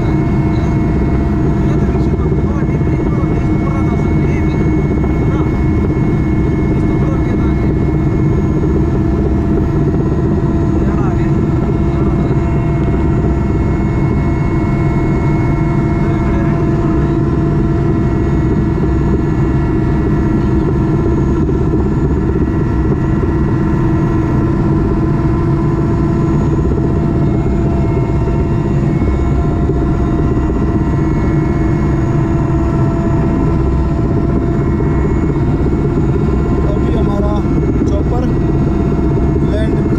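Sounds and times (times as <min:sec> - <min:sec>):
helicopter cabin drone: 0:00.0 - 0:39.9
helicopter whine: 0:00.0 - 0:39.9.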